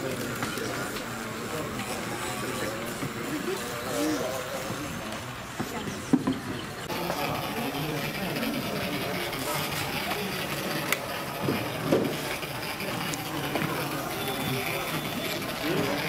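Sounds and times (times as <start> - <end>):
chatter of many voices: 0.0 - 16.0.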